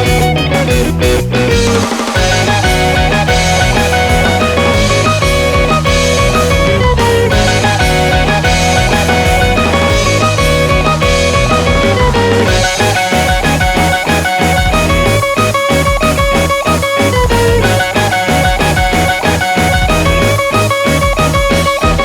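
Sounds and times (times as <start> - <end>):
upbeat guitar instrumental music: 0.0 - 22.0.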